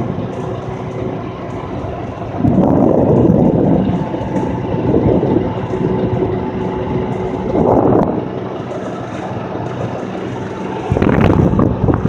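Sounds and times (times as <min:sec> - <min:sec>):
vehicle road and engine noise: 0:00.0 - 0:12.0
wind through open window: 0:00.0 - 0:12.0.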